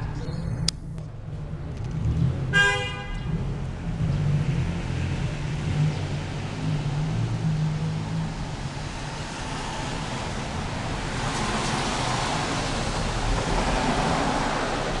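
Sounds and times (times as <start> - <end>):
street traffic hiss: 2.5 - 15.0.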